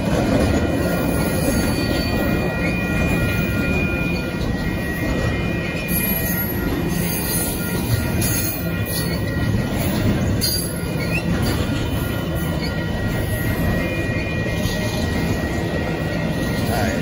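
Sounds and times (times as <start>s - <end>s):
steel wheels rumbling on rail: 0.0s - 17.0s
high squeal: 1.0s - 17.0s.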